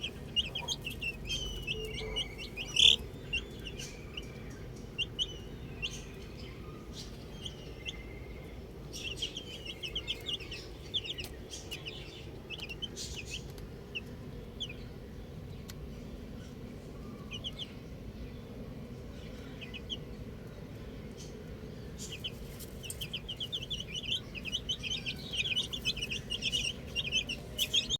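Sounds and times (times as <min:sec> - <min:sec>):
baby chicks peeping: 0:00.0 - 0:27.9
low background noise: 0:00.0 - 0:27.9.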